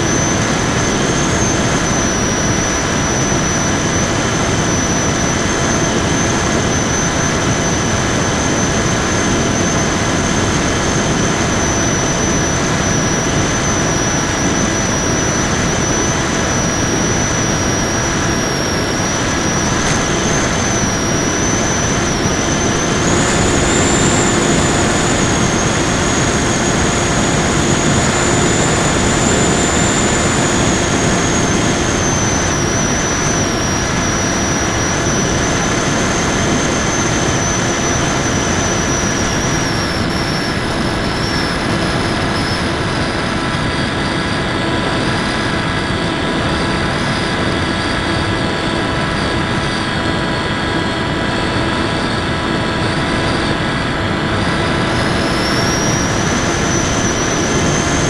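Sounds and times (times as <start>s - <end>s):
electric motor whine: 0.0s - 58.0s
wind noise: 0.0s - 58.0s.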